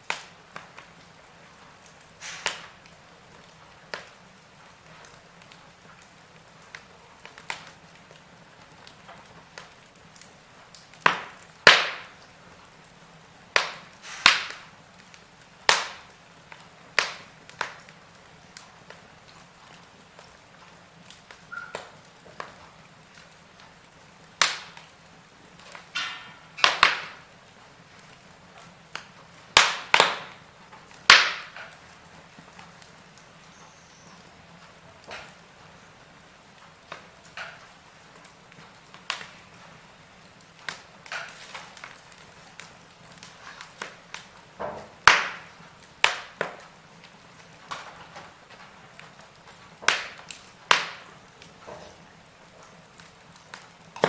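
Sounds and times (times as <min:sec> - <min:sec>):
low steady hiss: 0:00.0 - 0:54.0
wood fire crackling and popping: 0:00.0 - 0:54.0.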